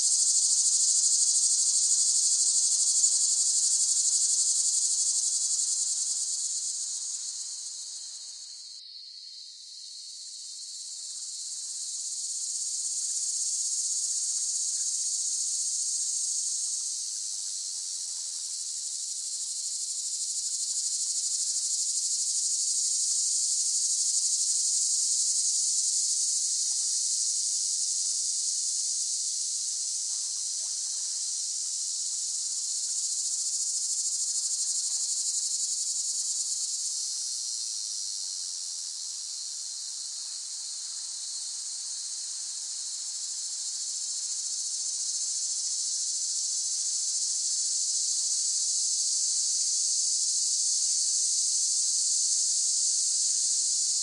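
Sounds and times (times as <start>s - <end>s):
cicadas buzzing: 0.0s - 28.1s, 28.8s - 54.0s.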